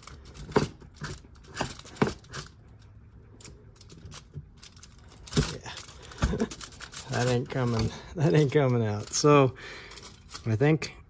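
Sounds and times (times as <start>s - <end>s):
metal parts clicking and clacking: 0.0s - 10.9s.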